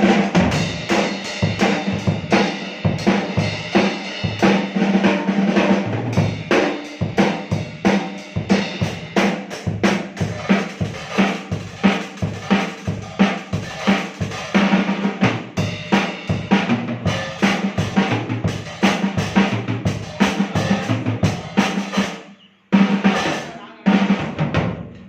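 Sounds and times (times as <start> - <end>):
drum kit playing: 0.0 - 25.0.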